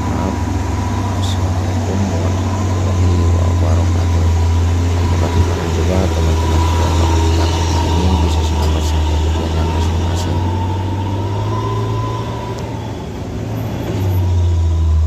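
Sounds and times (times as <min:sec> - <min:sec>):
faint high whine: 0:00.0 - 0:15.0
vehicle engine rumbling: 0:00.0 - 0:15.0.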